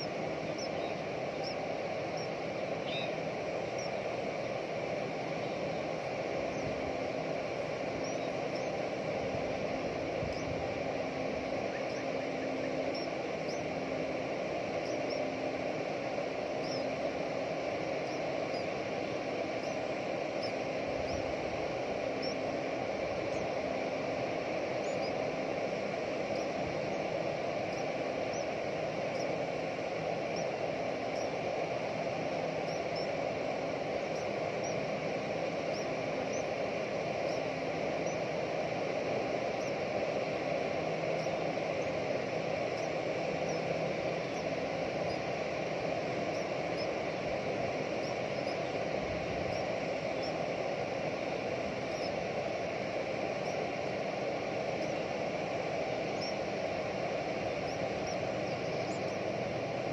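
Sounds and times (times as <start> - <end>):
outdoor background noise: 0.0 - 59.9
small birds chirping: 0.0 - 59.9.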